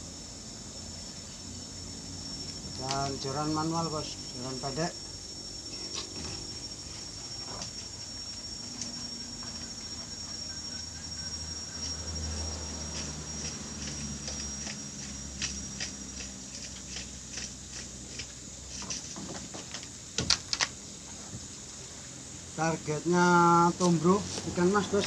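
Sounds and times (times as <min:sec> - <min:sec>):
high thin insect drone: 0:00.0 - 0:25.0.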